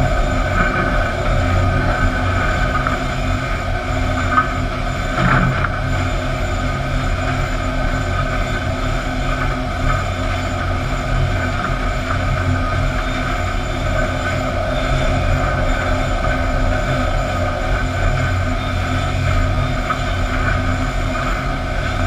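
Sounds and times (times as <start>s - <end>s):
sawmill conveyors running: 0.0s - 22.0s
steady machine hum: 0.0s - 22.0s.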